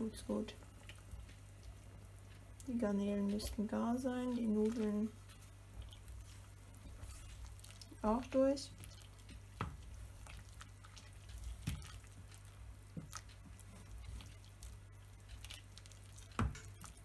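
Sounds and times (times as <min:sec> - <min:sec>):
faint low hum: 0:00.0 - 0:17.0
spoon stirring wet noodles: 0:03.3 - 0:17.0.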